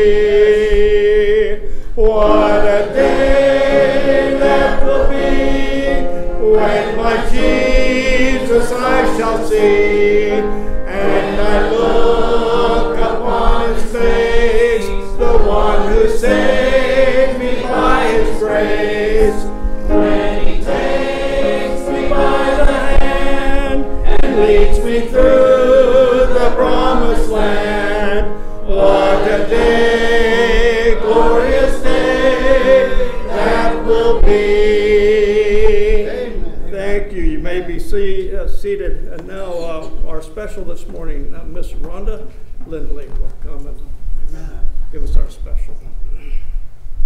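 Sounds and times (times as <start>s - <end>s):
congregation singing a hymn: 0.0s - 40.3s.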